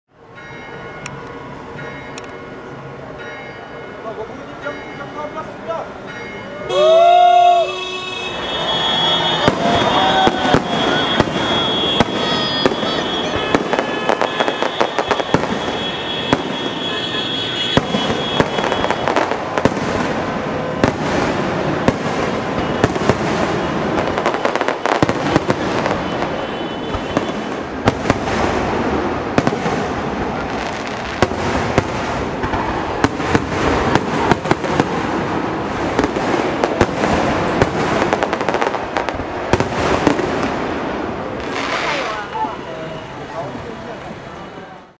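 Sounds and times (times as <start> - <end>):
fireworks bangs and crackles: 8.3 - 44.5.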